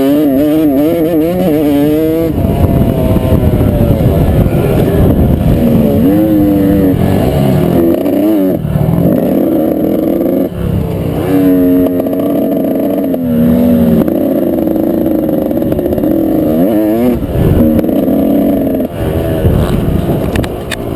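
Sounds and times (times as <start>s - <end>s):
dirt bike engine revving: 0.0s - 20.9s
low wind rumble: 0.0s - 20.9s.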